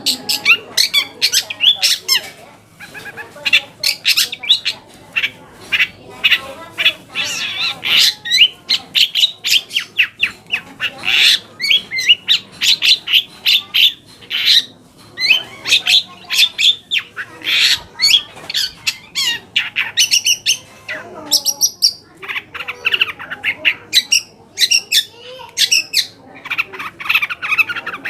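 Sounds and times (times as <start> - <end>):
bird harsh scratchy calls: 0.0 - 28.0.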